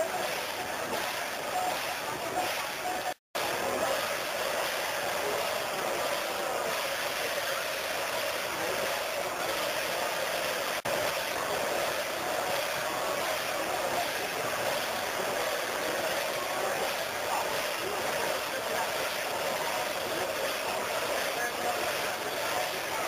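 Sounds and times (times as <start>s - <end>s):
crowd of many voices: 0.0s - 23.0s.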